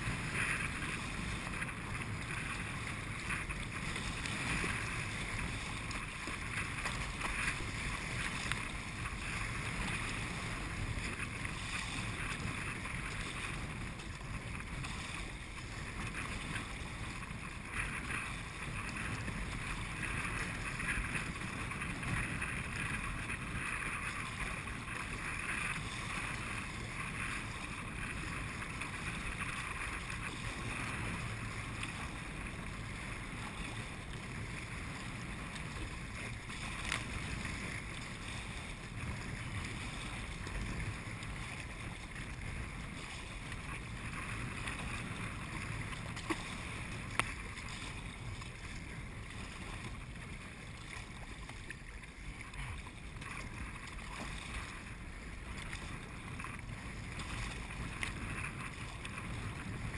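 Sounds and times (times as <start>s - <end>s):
water slapping against kayak hull: 0.0s - 59.9s.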